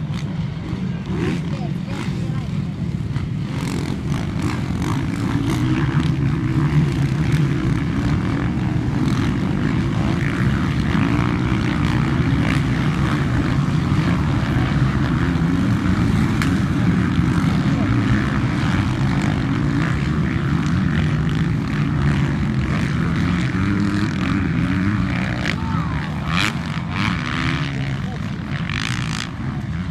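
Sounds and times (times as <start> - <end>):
motorcycle engines droning: 0.0 - 29.9.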